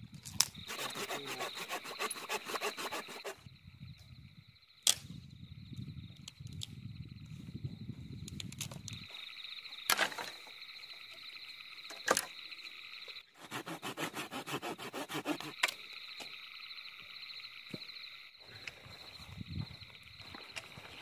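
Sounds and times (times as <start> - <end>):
night insects chirping: 0.0 - 21.0.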